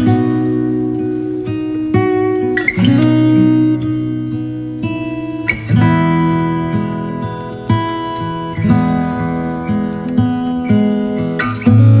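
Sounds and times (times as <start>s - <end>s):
acoustic guitar slow chords: 0.0s - 12.0s.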